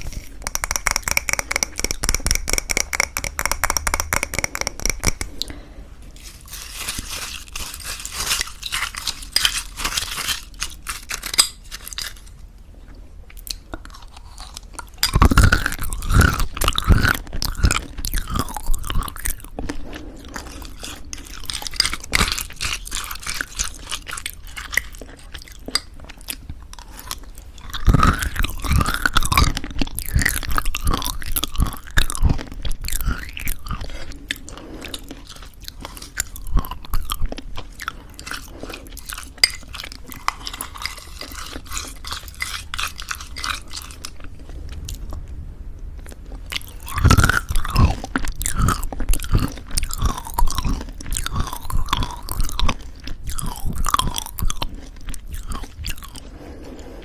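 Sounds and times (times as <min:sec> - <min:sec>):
wet mouth sounds: 0:00.0 - 0:12.3, 0:13.3 - 0:57.0
crunchy chewing: 0:00.0 - 0:57.0.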